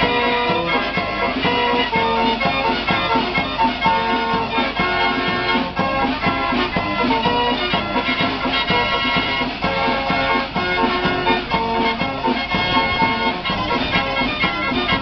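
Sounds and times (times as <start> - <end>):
fairground organ playing: 0.0 - 15.0.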